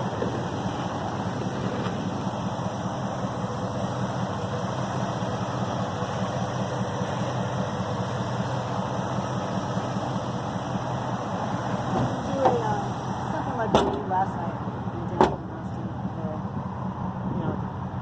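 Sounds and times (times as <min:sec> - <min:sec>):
car engine running steadily: 0:00.0 - 0:18.0.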